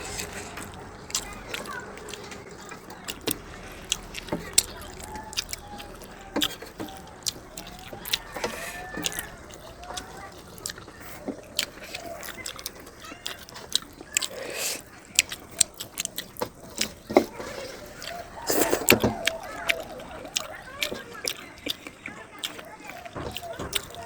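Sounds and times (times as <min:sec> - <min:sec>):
chewing and lip smacks: 0:00.0 - 0:24.0
mouth clicks: 0:00.0 - 0:24.0
soft wet mouth sound: 0:00.0 - 0:24.0.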